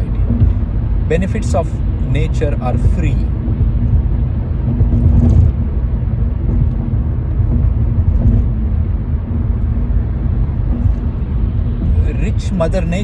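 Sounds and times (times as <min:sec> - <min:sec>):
faint hum: 0:00.0 - 0:13.0
low rumble: 0:00.0 - 0:13.0.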